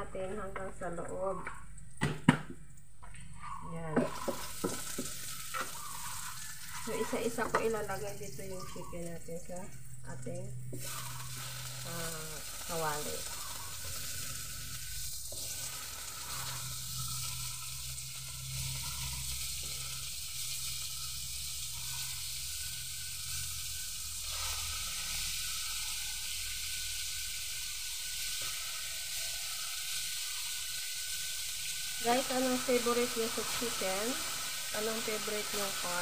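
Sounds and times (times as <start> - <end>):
chicken sizzling in hot oil: 3.9 - 36.0.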